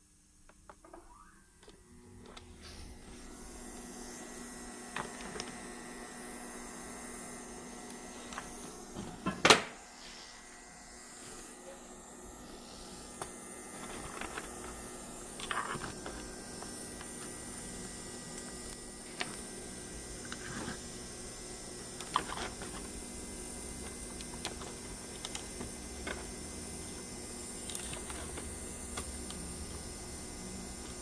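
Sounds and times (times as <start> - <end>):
constant high whine: 0.0 - 31.0
electrical hum: 0.0 - 31.0.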